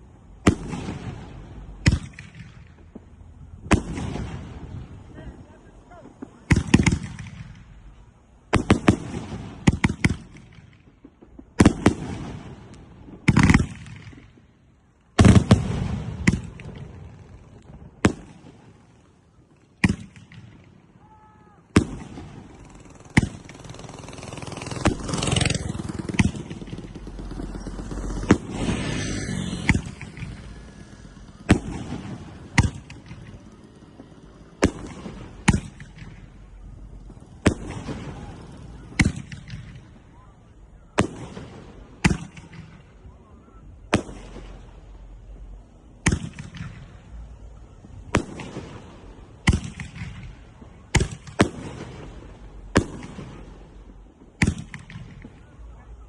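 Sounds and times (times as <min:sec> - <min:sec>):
firework bangs: 0:00.0 - 0:56.0
firework crackling: 0:00.0 - 0:56.0.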